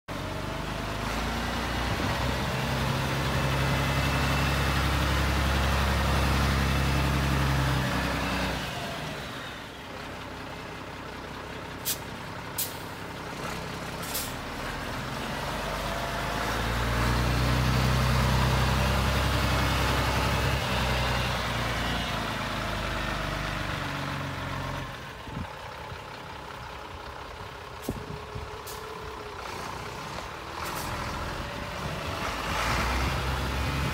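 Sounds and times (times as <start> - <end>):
truck engine running: 0.1 - 33.9.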